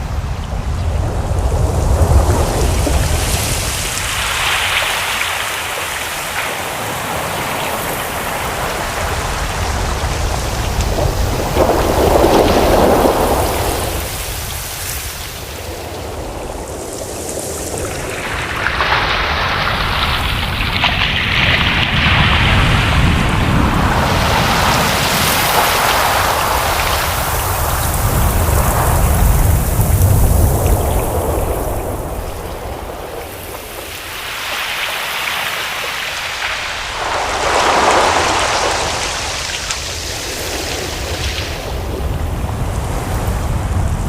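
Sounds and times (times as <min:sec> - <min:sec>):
ocean waves washing in: 0:00.0 - 0:44.0.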